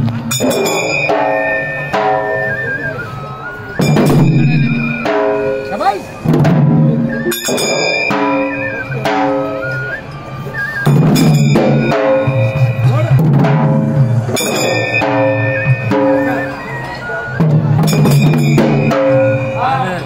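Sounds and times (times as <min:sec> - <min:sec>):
drums beaten in steady rhythm: 0:00.0 - 0:20.0
high melody: 0:00.1 - 0:20.0
ringing metal cymbals: 0:00.2 - 0:20.0.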